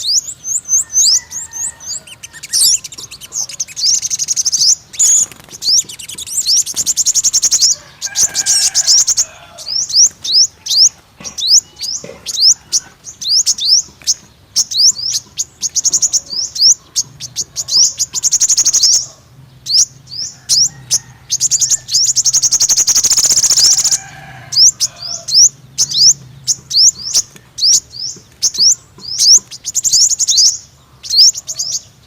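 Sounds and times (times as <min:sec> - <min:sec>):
bird chirping and trilling: 0:00.0 - 0:32.0.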